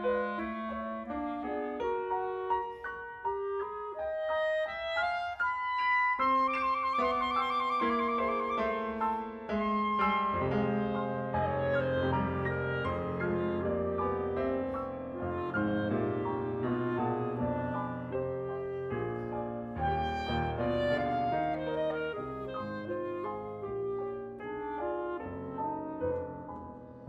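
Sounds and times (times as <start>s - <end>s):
clarinet melody: 0.0s - 27.0s
piano chords: 0.0s - 27.0s.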